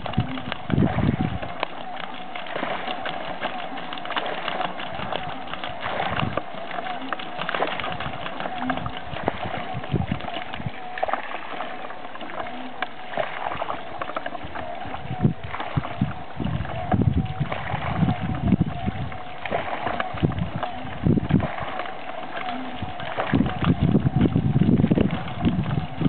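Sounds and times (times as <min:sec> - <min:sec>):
pump whine: 0:00.0 - 0:26.0
water jet splashing on pond: 0:00.0 - 0:26.0
wind rumble on microphone: 0:00.0 - 0:26.0.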